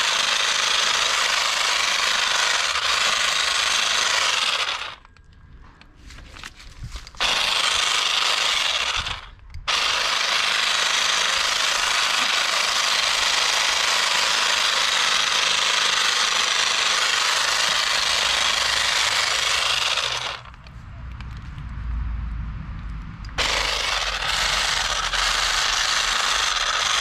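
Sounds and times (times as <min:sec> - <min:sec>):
power garden tool buzzing: 0:00.0 - 0:05.1, 0:07.2 - 0:20.6, 0:23.4 - 0:27.0.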